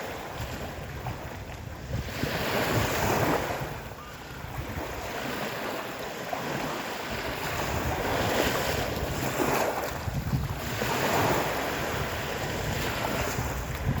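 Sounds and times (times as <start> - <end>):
stormy sea waves breaking: 0.0 - 14.0
wind rumbling on microphone: 0.0 - 14.0.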